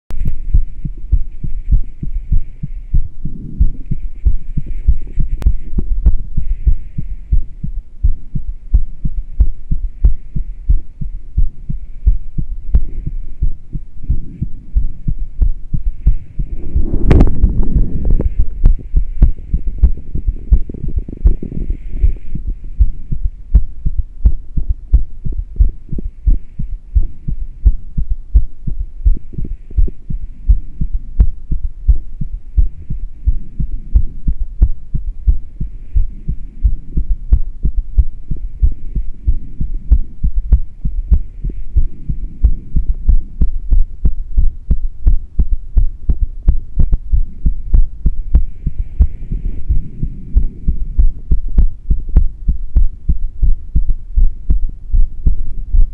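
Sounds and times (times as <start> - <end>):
heartbeat thumps: 0.1 - 55.9.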